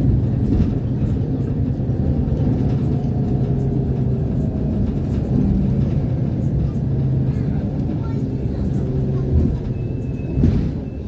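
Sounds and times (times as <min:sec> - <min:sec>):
bus engine and tyre rumble: 0:00.0 - 0:11.0.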